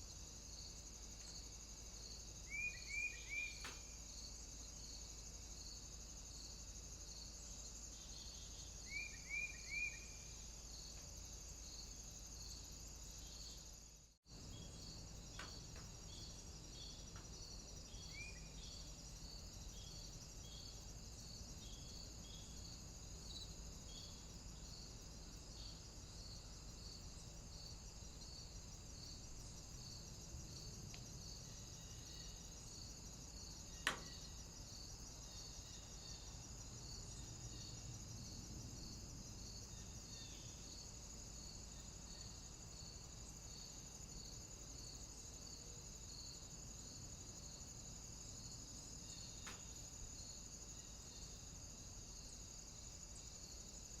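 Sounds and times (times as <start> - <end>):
insect trill: 0.0 - 54.0
pulsing insect chirp: 0.0 - 54.0.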